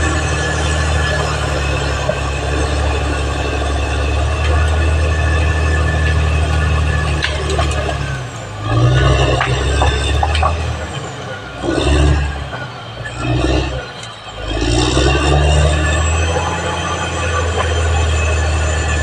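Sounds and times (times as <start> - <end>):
bulldozer diesel engine: 0.0 - 19.0
steel tracks whining and clanking: 0.0 - 19.0.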